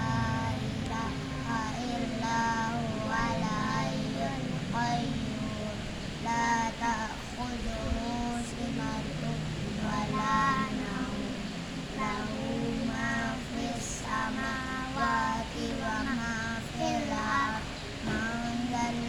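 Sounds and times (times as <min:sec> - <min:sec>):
children chanting together: 0:00.0 - 0:19.0.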